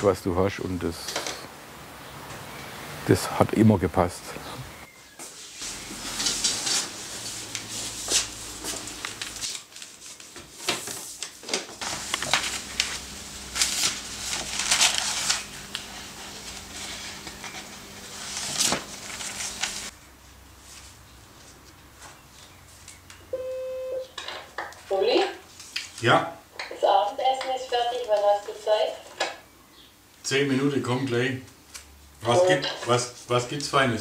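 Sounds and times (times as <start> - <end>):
faint electric hum: 0.0 - 34.0.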